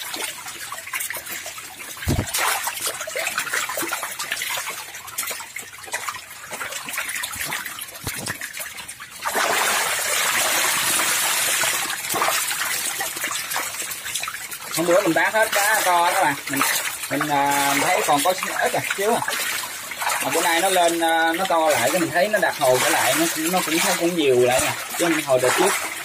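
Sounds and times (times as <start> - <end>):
fish splashing in tank: 0.0 - 26.0
rushing water: 0.0 - 26.0.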